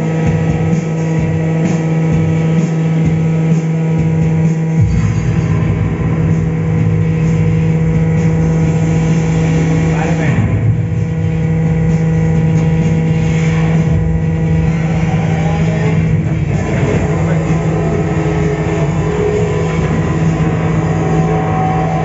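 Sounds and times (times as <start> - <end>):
low vehicle drone: 0.0 - 22.0.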